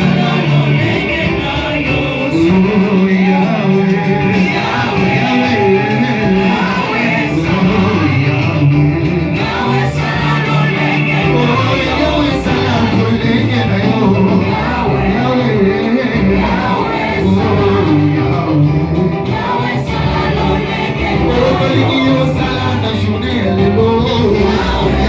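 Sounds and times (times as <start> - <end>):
band with guitar: 0.0 - 25.0
singers: 0.0 - 25.0.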